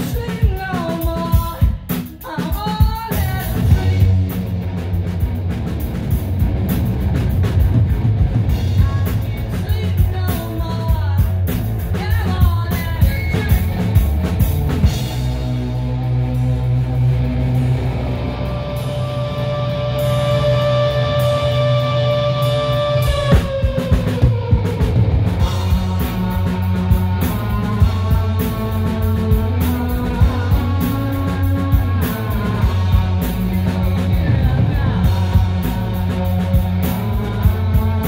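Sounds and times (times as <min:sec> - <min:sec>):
drums steady beat: 0:00.0 - 0:38.0
live rock band: 0:00.0 - 0:38.0.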